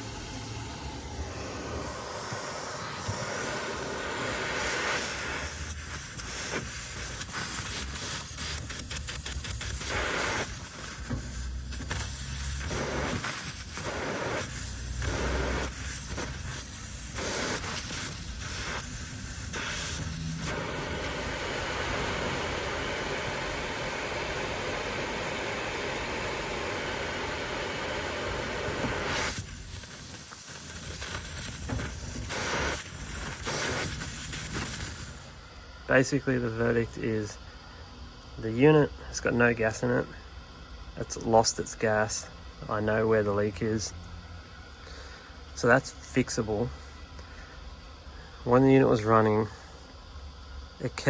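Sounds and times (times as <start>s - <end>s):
gas hissing from a leak: 0.0s - 44.0s.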